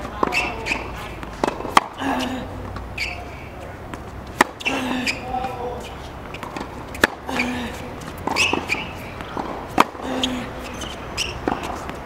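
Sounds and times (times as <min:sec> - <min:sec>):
ball bounces: 0:00.0 - 0:02.0, 0:03.9 - 0:12.0
footfalls on court: 0:00.0 - 0:03.3, 0:03.9 - 0:12.0
racket hitting tennis ball: 0:00.0 - 0:12.0.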